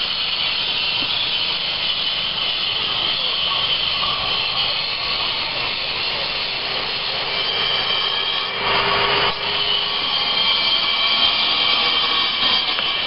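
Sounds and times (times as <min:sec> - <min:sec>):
angle grinders grinding stone: 0:00.2 - 0:13.0.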